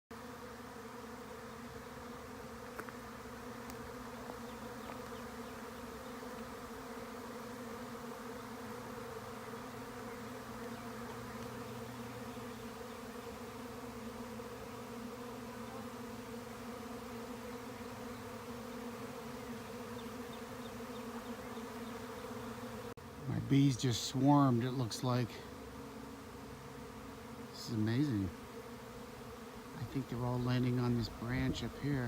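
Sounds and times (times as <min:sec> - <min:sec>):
bees buzzing: 0:00.1 - 0:32.0.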